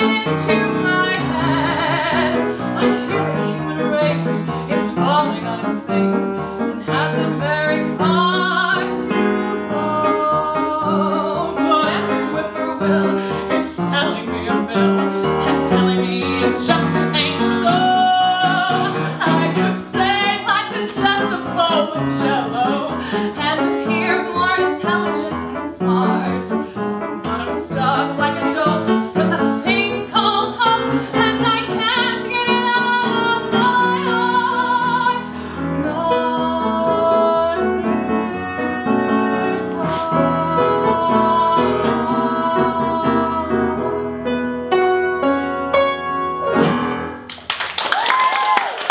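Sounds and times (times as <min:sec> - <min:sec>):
woman singing: 0:00.0 - 0:44.1
piano accompaniment: 0:00.0 - 0:47.6.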